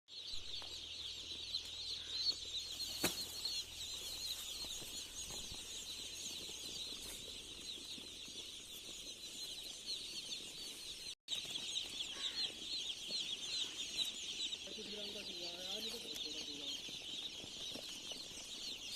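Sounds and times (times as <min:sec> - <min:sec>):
chicks peeping: 0:00.1 - 0:18.9.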